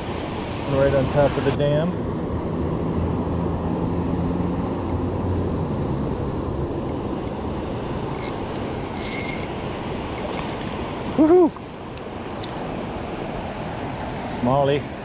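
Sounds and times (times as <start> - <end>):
river water rushing over dam: 0.0 - 2.0, 3.9 - 15.0
low engine hum: 0.0 - 15.0.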